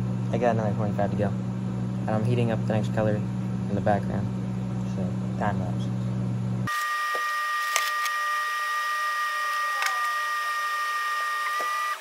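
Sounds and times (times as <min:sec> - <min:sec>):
high two-tone whine: 0:00.0 - 0:12.0
room hum: 0:00.0 - 0:12.0.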